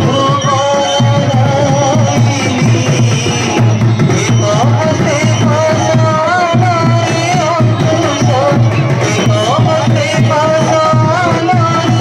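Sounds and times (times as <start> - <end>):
busy drum rhythm: 0.0 - 12.0.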